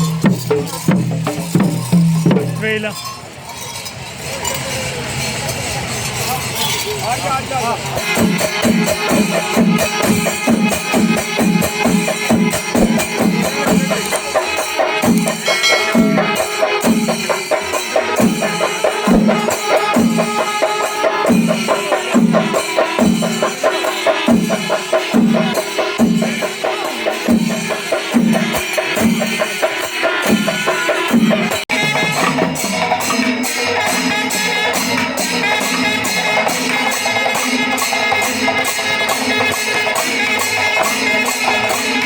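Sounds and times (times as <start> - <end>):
festival drums: 0.0 - 42.0
metallic cymbal clatter: 0.0 - 42.0.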